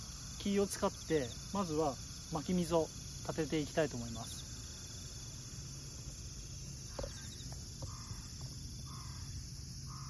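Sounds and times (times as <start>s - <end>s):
insects singing: 0.0s - 10.0s.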